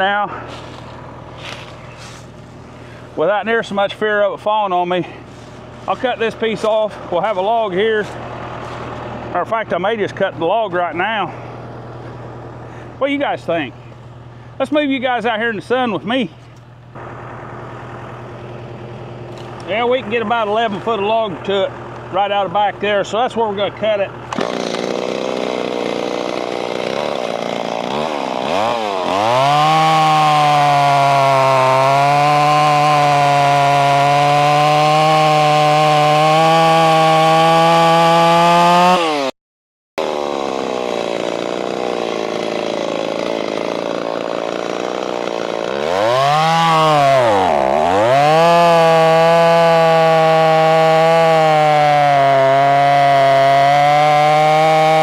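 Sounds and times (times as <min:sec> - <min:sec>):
chainsaw cutting log: 0:00.0 - 0:03.8, 0:04.4 - 0:12.8, 0:17.0 - 0:22.7, 0:23.6 - 0:39.4, 0:40.0 - 0:55.0.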